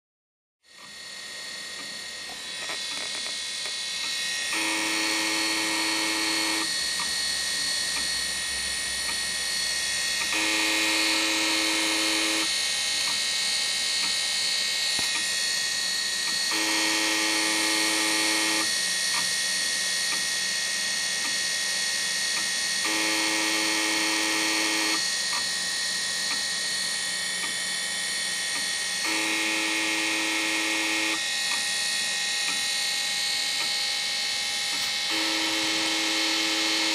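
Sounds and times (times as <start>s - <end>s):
hard drive whining and buzzing: 0.6s - 36.9s.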